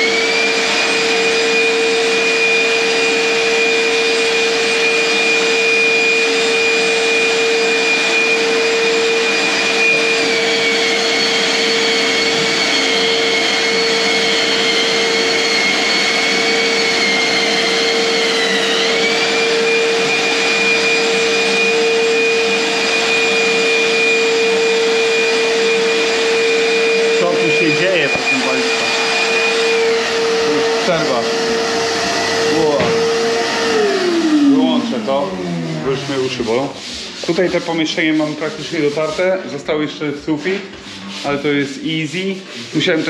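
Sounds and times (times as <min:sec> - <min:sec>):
drywall sander motor whine: 0:00.0 - 0:43.0.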